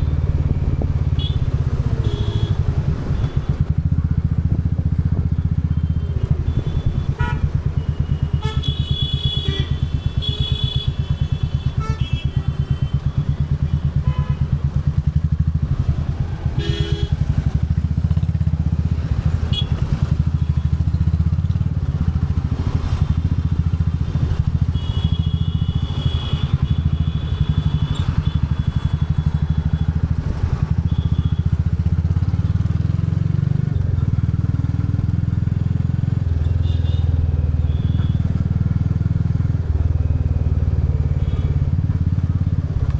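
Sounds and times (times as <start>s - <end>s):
motorcycle engine and exhaust pulsing: 0.0s - 42.9s.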